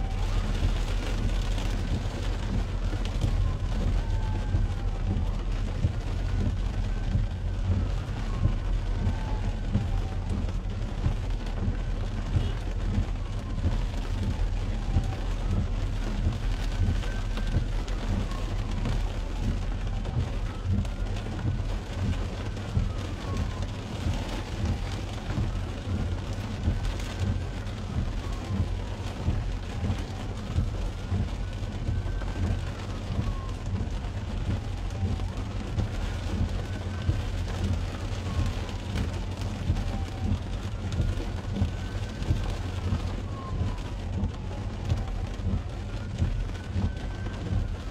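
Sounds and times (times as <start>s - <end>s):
rain pattering on car: 0.0s - 47.9s
windshield wipers whining: 0.1s - 47.8s.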